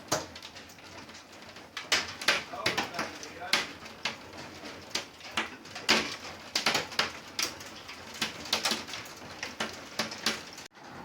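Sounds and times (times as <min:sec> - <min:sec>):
hailstones striking hard surfaces: 0:00.0 - 0:10.8
hiss of falling hail: 0:00.0 - 0:10.9.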